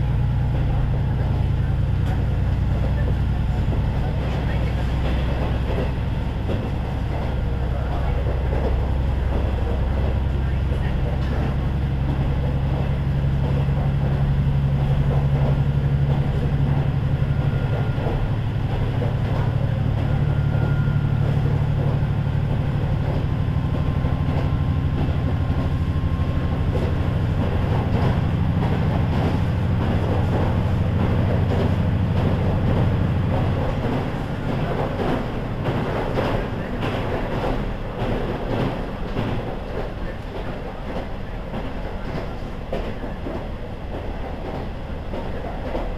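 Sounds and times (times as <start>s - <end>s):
diesel railcar engine droning: 0.0s - 45.9s
wheels clattering over rail joints: 0.5s - 45.9s.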